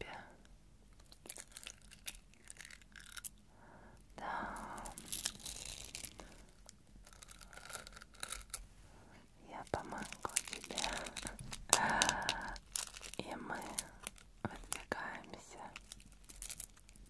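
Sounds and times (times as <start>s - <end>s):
bead chain clicking and rustling: 1.0s - 3.4s, 4.6s - 8.6s, 9.7s - 17.0s.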